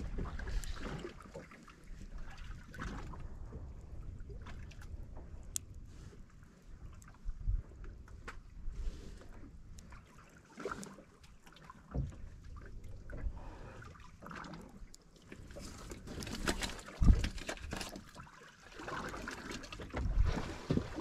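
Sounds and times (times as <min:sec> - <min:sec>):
water lapping against boat hull: 0:00.0 - 0:21.0.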